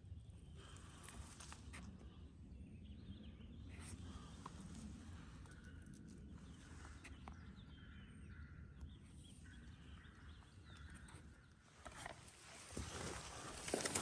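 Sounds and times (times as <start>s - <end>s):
distant songbirds chirping: 0.0s - 14.0s.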